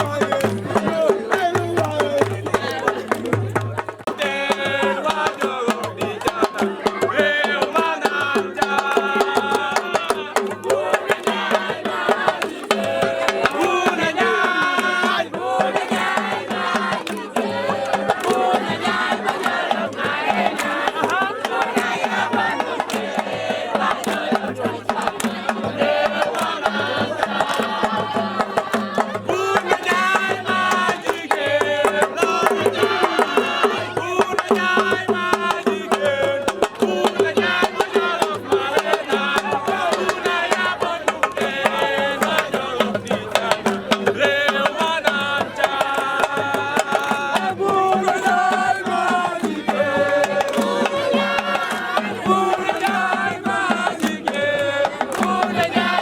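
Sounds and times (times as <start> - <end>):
fast dense drumming: 0.0 - 56.0
people singing: 0.0 - 56.0.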